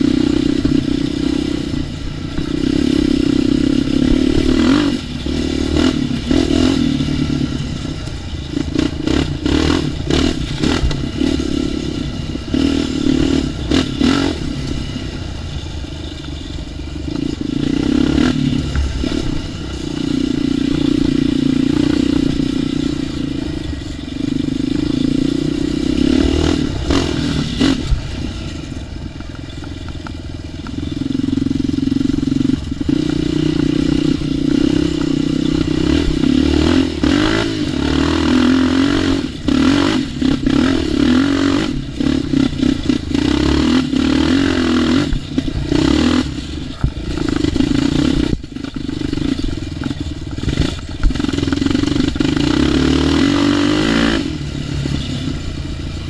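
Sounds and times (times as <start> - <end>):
atv engine revving: 0.0 - 56.0
knocks and rattles on rough ground: 0.0 - 56.0.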